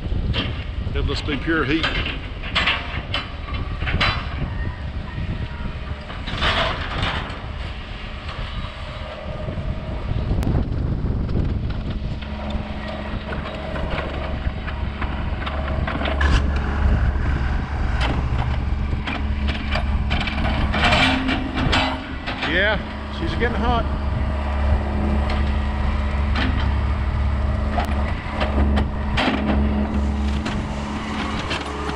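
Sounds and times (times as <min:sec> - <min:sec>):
excavator diesel engine rumbling: 0:00.0 - 0:31.9.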